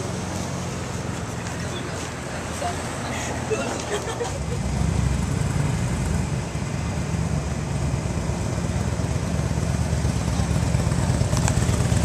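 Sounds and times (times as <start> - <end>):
street ambience rumble: 0.0 - 12.0.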